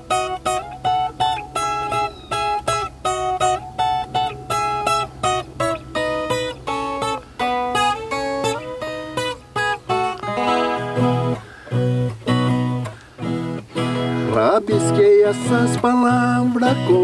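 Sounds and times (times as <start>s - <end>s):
guitar strummed rhythmically: 0.0s - 17.0s.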